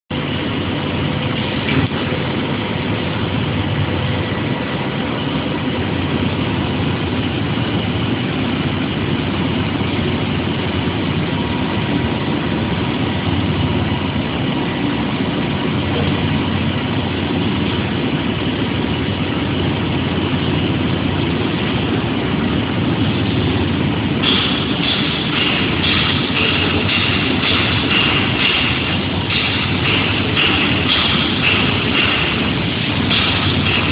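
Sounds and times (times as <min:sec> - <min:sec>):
welding machine humming: 0:00.1 - 0:33.9.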